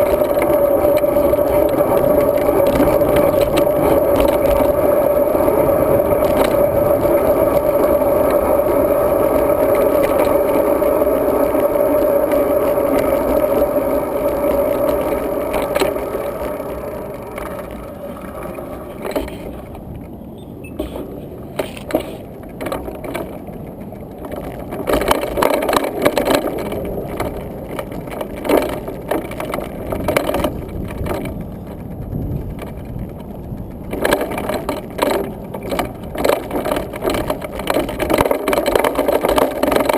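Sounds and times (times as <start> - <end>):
bike knocks and rattles: 0.0 - 39.9
wind and tyres rushing: 0.0 - 39.9.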